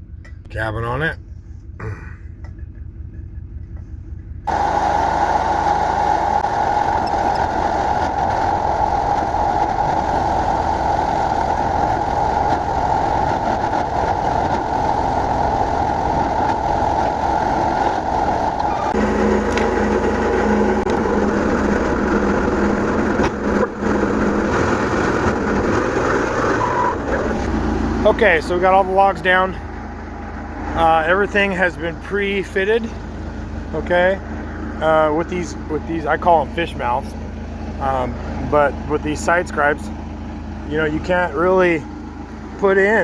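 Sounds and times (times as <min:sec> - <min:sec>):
engine running: 0:00.0 - 0:43.0
steady low hum: 0:00.0 - 0:43.0.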